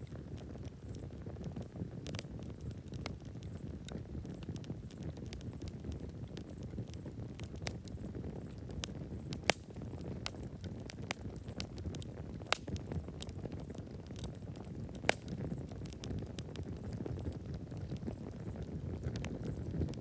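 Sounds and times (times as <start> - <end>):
campfire crackling snaps: 0.0 - 20.0
flames rushing: 0.0 - 20.0
sharp fire pops: 0.1 - 20.0.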